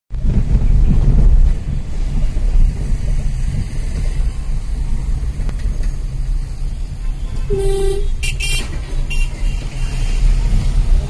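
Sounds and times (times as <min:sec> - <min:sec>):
car engine rumble: 0:00.1 - 0:11.0
road noise inside car: 0:00.1 - 0:11.0.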